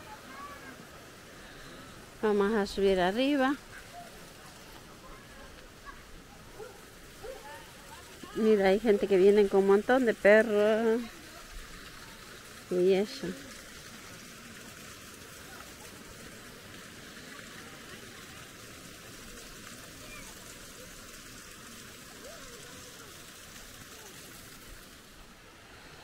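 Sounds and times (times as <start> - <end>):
stream running water: 0.0 - 26.0.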